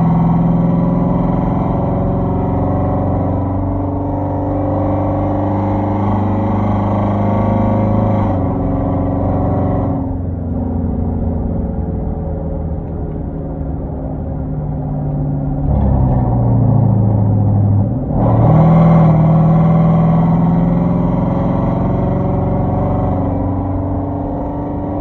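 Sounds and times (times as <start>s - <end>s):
car engine driving under load: 0.0s - 25.0s.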